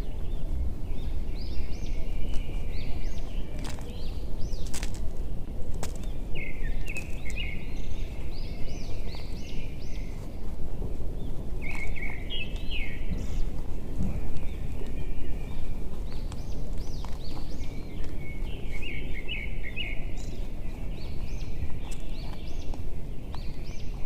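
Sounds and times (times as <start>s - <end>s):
birds chirping: 0.0s - 24.0s
low outdoor rumble: 0.0s - 24.0s.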